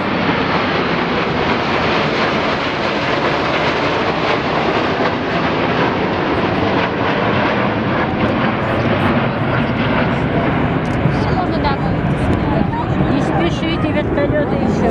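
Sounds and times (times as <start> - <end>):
military aircraft flying overhead: 0.0 - 14.9.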